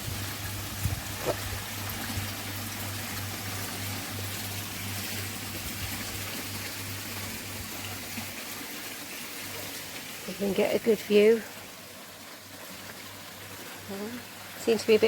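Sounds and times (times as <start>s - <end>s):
waterfall trickling and splashing: 0.0s - 15.0s.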